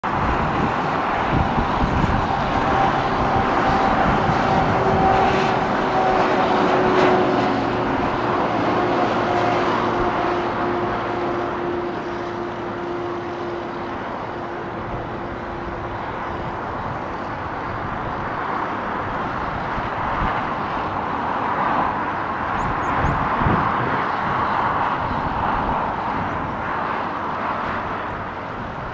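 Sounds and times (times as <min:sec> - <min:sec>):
jet engine roar: 0:00.0 - 0:28.9.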